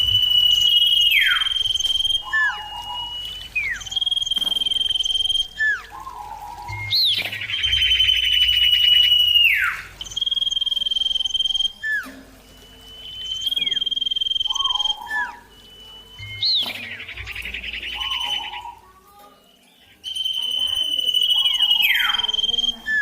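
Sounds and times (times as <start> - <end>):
bird whistling song: 0.0 - 23.0.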